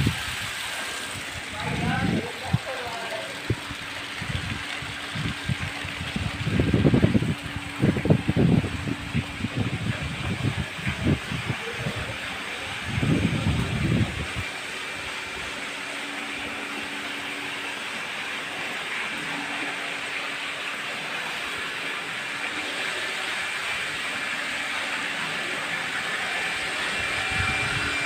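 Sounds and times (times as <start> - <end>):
running splashing water: 0.0 - 28.0.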